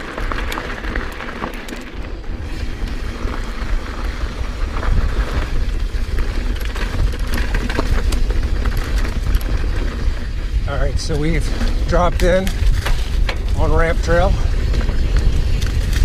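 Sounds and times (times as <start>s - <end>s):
bike tyres crunching on gravel: 0.0s - 16.0s
wind buffeting microphone: 0.0s - 16.0s.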